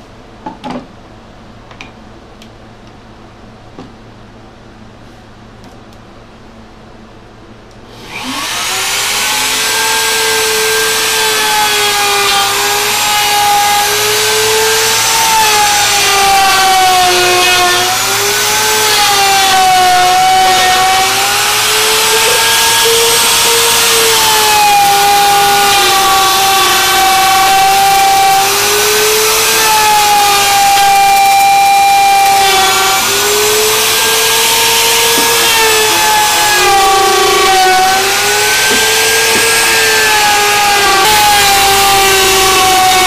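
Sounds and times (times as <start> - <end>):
router cutting wood: 7.9 - 43.0
router whining: 7.9 - 43.0.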